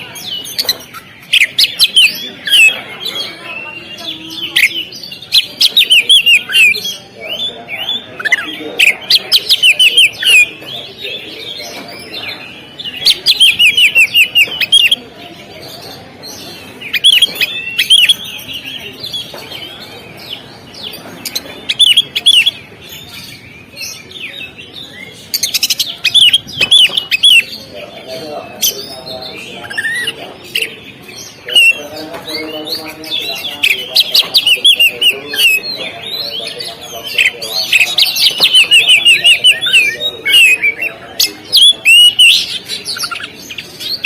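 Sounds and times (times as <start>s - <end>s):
songbird whistling song: 0.0s - 15.1s, 16.3s - 44.0s.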